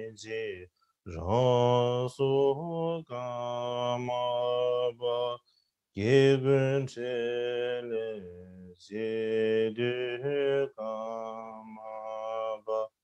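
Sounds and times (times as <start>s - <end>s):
man chanting a prayer: 0.0s - 5.4s, 6.0s - 12.9s.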